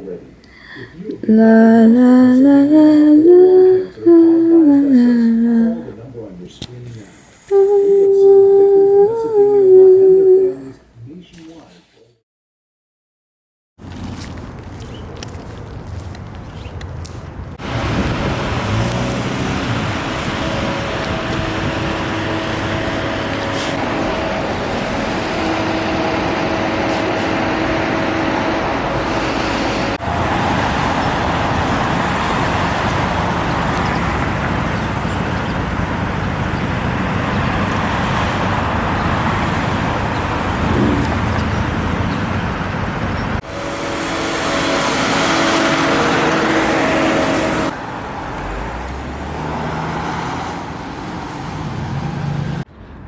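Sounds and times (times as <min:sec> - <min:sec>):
engine hum: 0:00.0 - 0:10.6, 0:13.8 - 0:53.0
traffic rumble: 0:00.0 - 0:11.6, 0:13.8 - 0:53.0.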